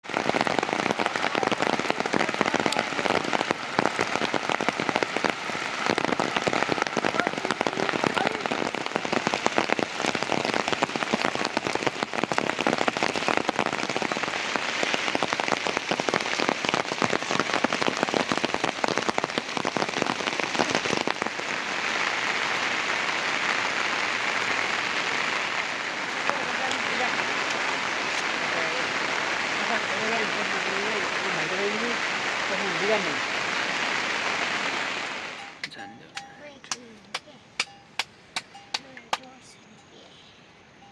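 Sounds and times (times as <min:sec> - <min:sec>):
heavy rain patter: 0:00.0 - 0:40.0.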